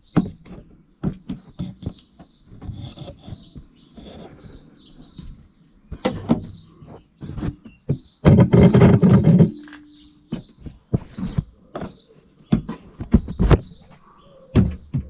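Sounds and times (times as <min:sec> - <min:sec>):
rustling and knocking: 0:00.0 - 0:15.0
small birds chirping: 0:00.0 - 0:15.0.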